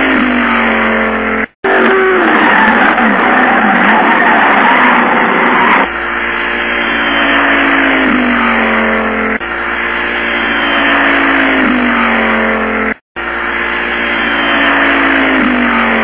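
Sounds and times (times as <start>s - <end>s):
loud rush of noise: 0.0s - 16.0s
race car engines revving: 0.0s - 16.0s.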